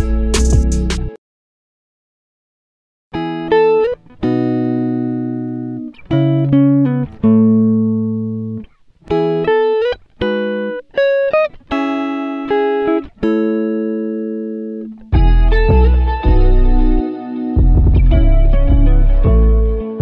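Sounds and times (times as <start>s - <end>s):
plucked string instrument melody: 3.2s - 20.0s.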